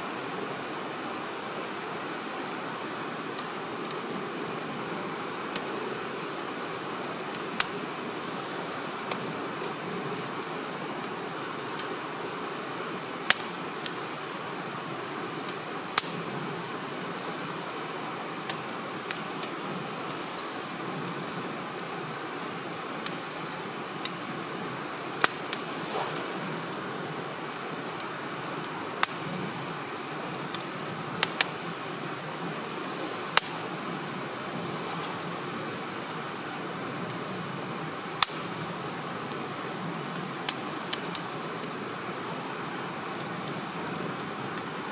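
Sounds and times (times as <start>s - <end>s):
burning wood crackling: 0.0s - 44.9s
rush of flame: 0.3s - 41.7s.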